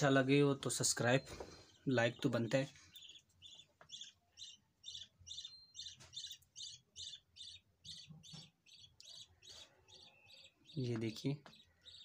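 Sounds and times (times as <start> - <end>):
small bird chirping: 0.0 - 12.0.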